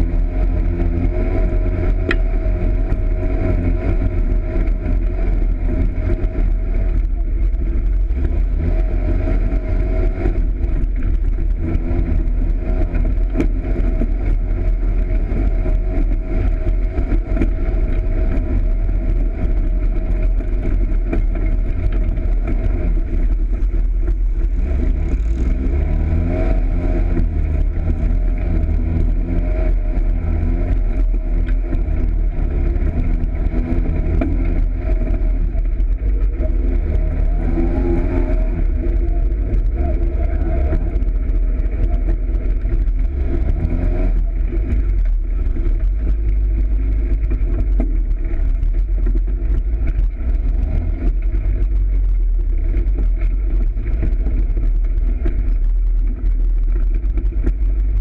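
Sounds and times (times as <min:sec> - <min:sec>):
heavy low rumble: 0:00.0 - 0:58.0
off-road vehicle engine running: 0:00.0 - 0:58.0.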